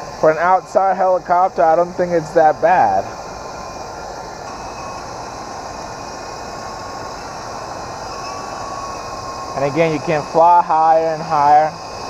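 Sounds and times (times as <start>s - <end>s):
thin electric motor whine: 0.0s - 12.0s
toy helicopter rotors whirring: 0.0s - 12.0s.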